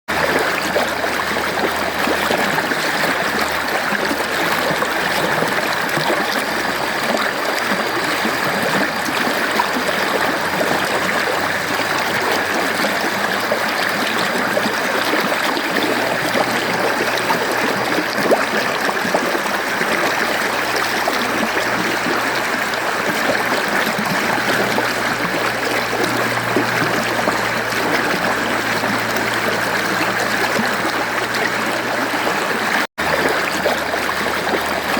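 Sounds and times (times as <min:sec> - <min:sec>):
stream flowing over rocks: 0:00.1 - 0:34.9.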